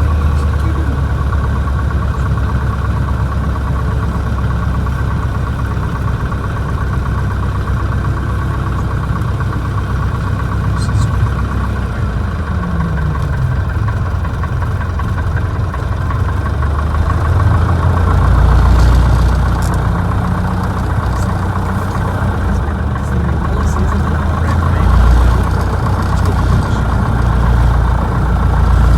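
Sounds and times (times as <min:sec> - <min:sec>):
light aircraft piston engine: 0:00.0 - 0:28.9.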